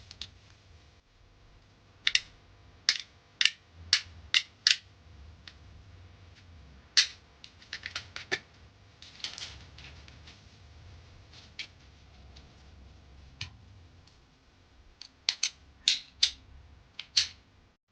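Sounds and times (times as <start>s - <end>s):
faint low hum: 0.0s - 17.8s.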